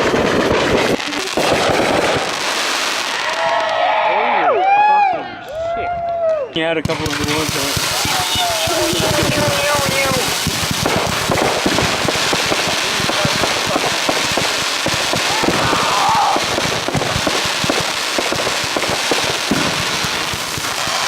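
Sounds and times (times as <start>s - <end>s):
fireworks bangs and crackles: 0.0s - 4.0s, 6.6s - 21.0s.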